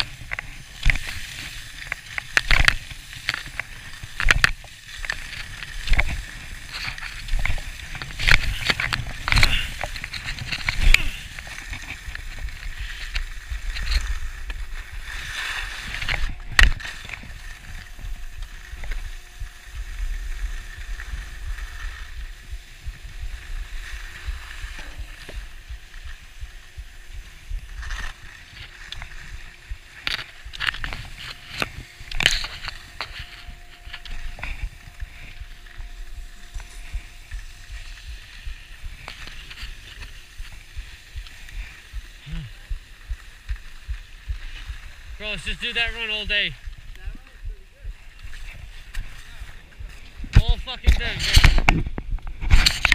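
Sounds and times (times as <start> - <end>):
skis scraping over packed snow: 0.0 - 52.9.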